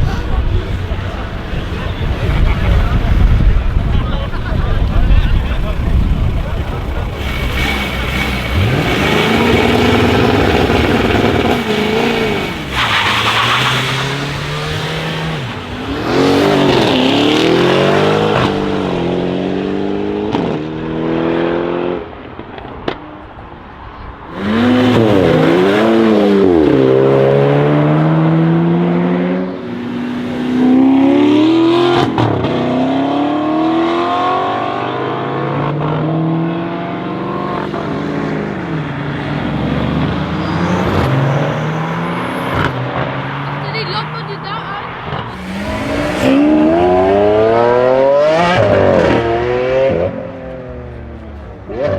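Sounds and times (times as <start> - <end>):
car engine revving: 0.6 - 23.0, 24.3 - 51.9.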